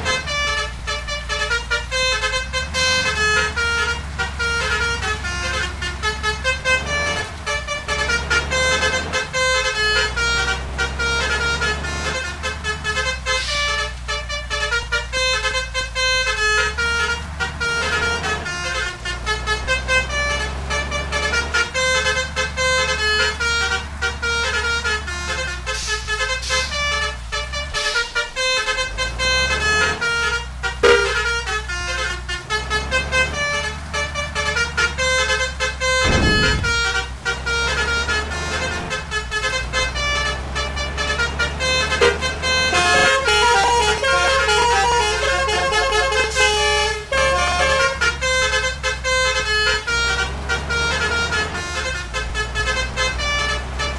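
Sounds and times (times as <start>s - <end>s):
bus engine humming: 0.0s - 53.9s
bus musical horn playing a tune: 0.0s - 53.9s.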